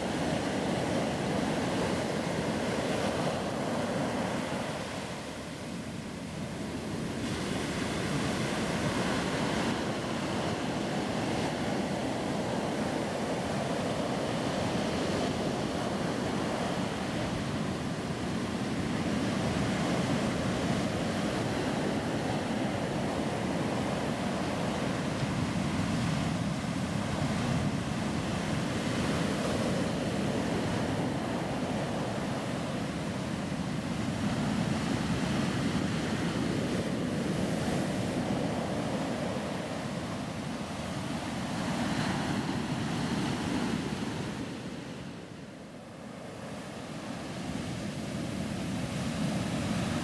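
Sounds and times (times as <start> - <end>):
waves washing up a beach: 0.0 - 50.0.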